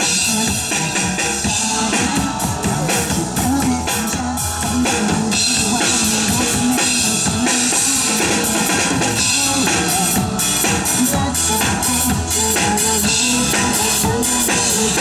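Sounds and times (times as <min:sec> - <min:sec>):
drum kit playing a beat: 0:00.0 - 0:15.0
recorded pop song: 0:00.0 - 0:15.0.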